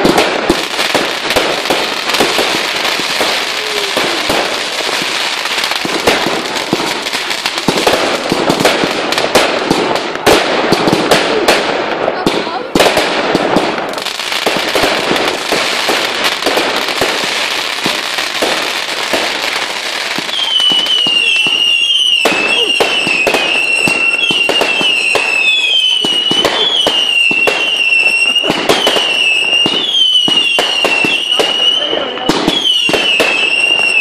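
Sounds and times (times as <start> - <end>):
fireworks crackling and popping: 0.0 - 34.0
fireworks sharp bangs: 0.0 - 34.0
whistling fireworks: 0.0 - 34.0.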